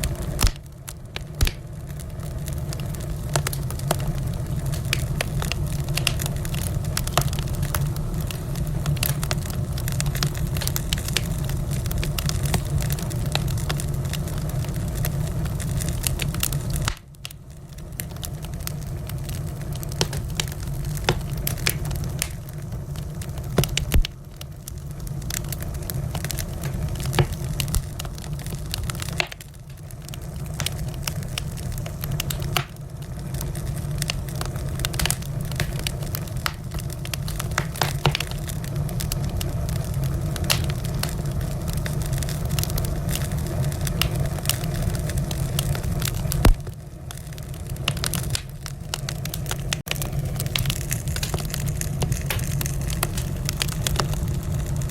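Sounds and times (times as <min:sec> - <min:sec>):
fire snapping and popping: 0:00.0 - 0:54.9
low fire rumble: 0:00.0 - 0:54.9.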